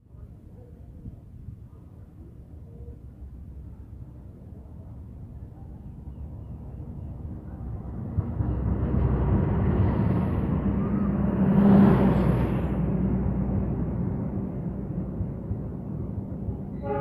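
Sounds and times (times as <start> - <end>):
diesel locomotive engine drone: 0.2 - 17.0.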